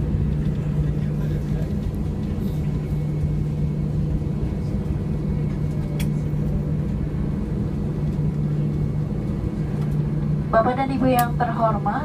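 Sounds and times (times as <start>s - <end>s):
aircraft cabin hum and rumble: 0.0s - 12.0s.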